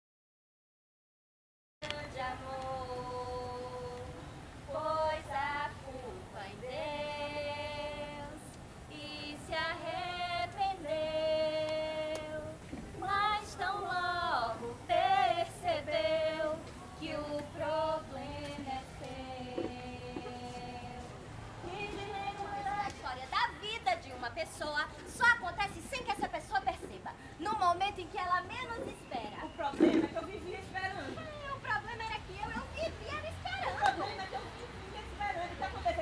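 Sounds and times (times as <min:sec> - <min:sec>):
woman singing unaccompanied: 0:01.8 - 0:36.0.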